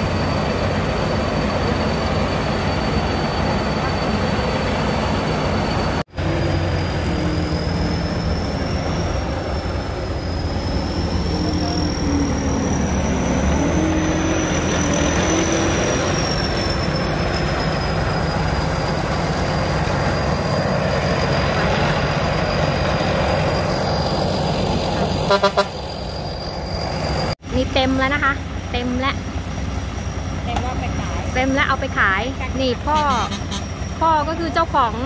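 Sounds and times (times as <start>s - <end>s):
combine harvester engine running: 0.0s - 35.0s.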